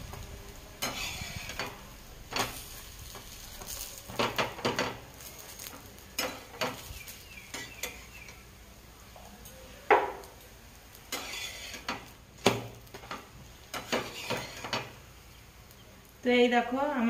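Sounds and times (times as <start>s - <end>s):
spatula scraping and knocking griddle: 0.0s - 8.5s, 9.9s - 15.2s
flatbread sizzling in oil: 0.0s - 17.0s.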